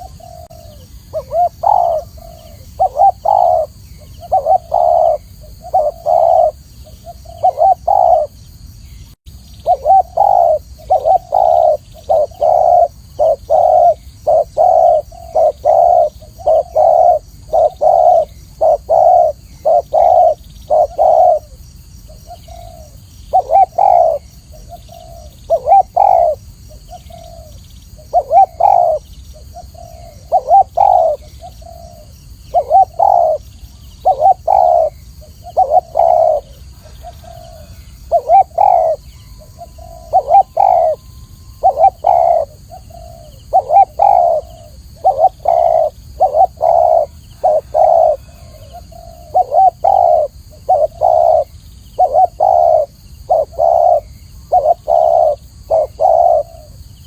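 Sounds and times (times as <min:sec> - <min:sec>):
dove cooing: 0:00.0 - 0:08.4, 0:09.6 - 0:56.9.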